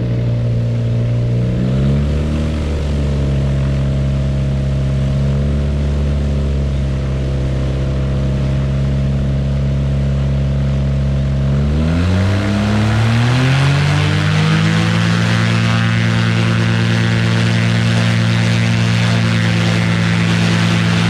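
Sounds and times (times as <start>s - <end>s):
aircraft engine running: 0.0s - 21.0s.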